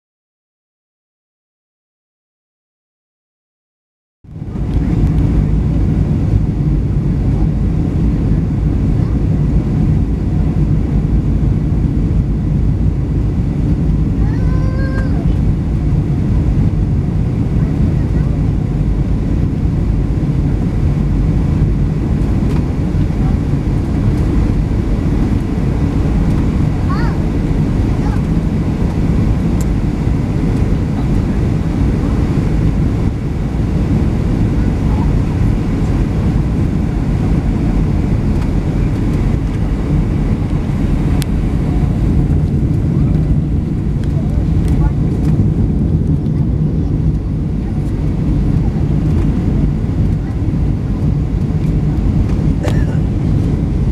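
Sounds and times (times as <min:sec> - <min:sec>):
airflow rushing: 0:04.3 - 0:53.9
airplane cabin engine roar: 0:04.3 - 0:53.9.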